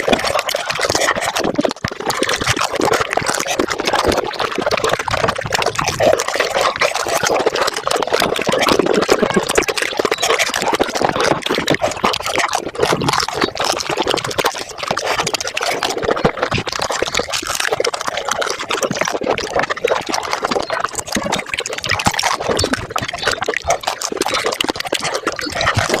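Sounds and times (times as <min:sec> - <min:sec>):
crunching and slurping food: 0:00.0 - 0:26.0.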